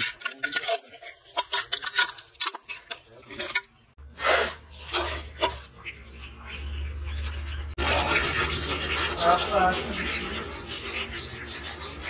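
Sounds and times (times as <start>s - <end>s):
metal spoon scraping pot: 0.0s - 12.0s.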